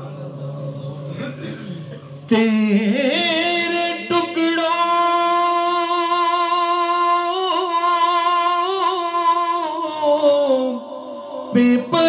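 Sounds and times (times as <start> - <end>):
man singing a long note: 0.0 - 12.0.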